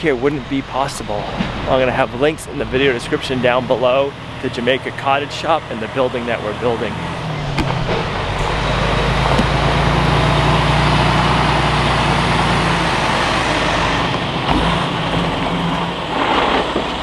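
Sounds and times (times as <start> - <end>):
diesel truck driving past: 0.0 - 17.0.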